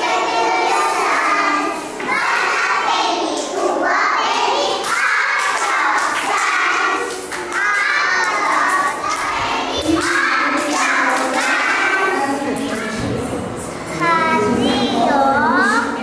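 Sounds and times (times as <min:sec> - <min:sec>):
young children singing: 0:00.0 - 0:16.0.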